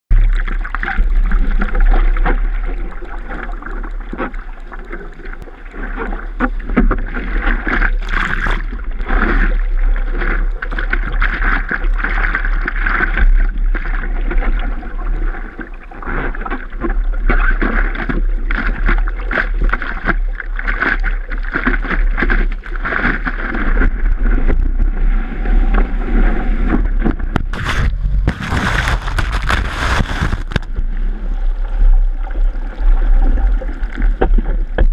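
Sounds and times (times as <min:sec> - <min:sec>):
low microphone rumble: 0:00.1 - 0:20.4, 0:21.4 - 0:34.9
water rushing over camera: 0:00.1 - 0:34.9
water splashing against surfboard: 0:00.1 - 0:34.9.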